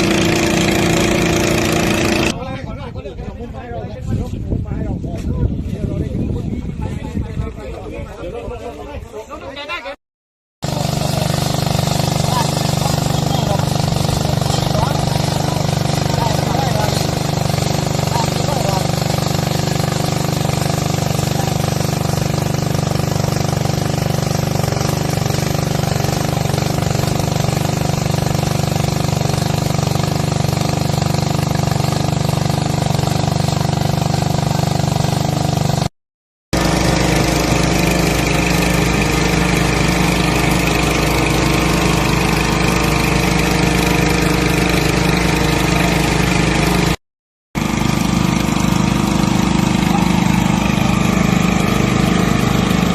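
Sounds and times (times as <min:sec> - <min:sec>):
engine running steadily: 0:00.0 - 0:02.4, 0:10.6 - 0:35.9, 0:36.6 - 0:47.0, 0:47.6 - 0:52.9.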